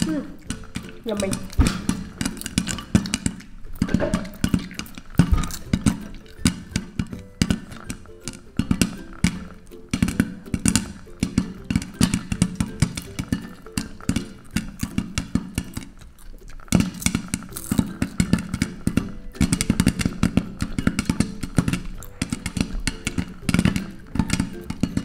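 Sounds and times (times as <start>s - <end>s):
light guitar music: 0.0s - 25.0s
popcorn popping in pot: 0.0s - 25.0s.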